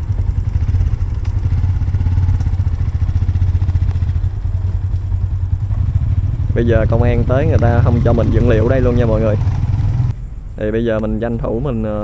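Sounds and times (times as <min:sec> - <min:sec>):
engine running steadily: 0:00.0 - 0:11.8.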